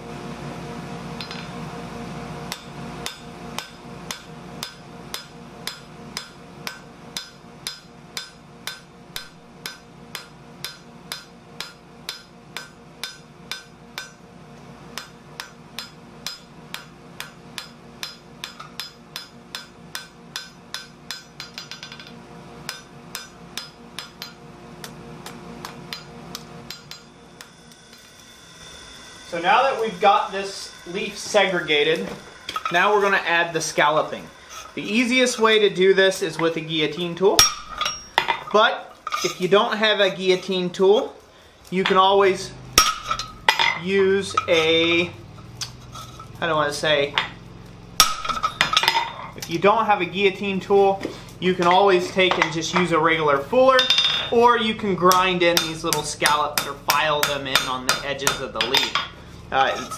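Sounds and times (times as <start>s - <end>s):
steady hum: 0.0s - 59.9s
hammer striking steel on anvil: 1.2s - 1.6s, 2.5s - 14.3s, 14.9s - 28.2s, 29.8s - 35.7s, 36.3s - 40.6s, 41.8s - 46.4s, 48.0s - 49.5s, 50.8s - 59.9s.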